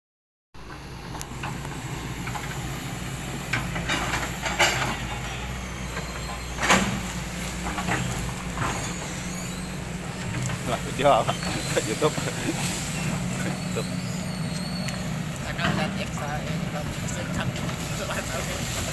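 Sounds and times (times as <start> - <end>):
heavy machine engine running: 0.6 - 18.9.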